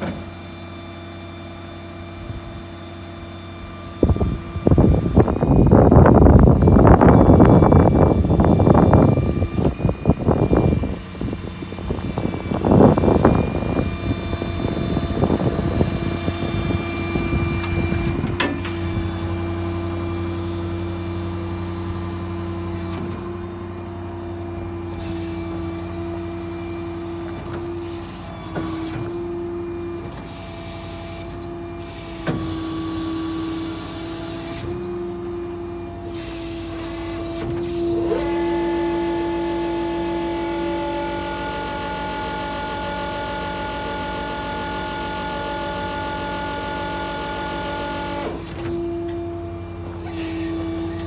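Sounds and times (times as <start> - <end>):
diesel truck engine whine: 0.0 - 51.0.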